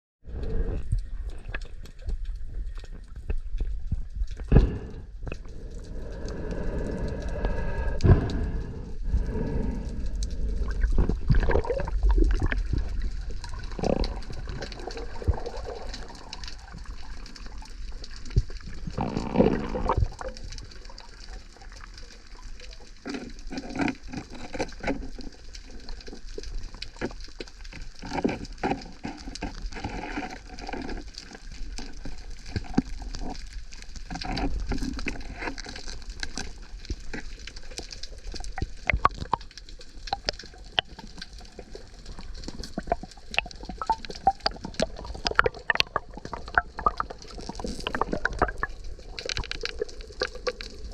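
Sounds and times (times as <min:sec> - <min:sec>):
muffled water swirling and bubbling: 0:00.2 - 0:50.9.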